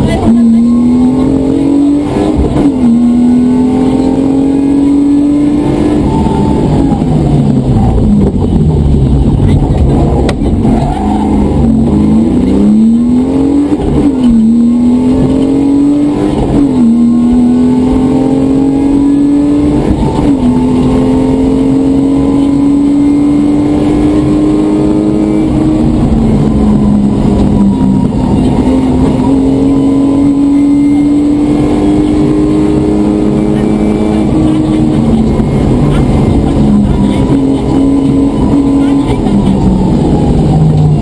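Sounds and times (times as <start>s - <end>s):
rally car engine from inside: 0.0s - 41.0s.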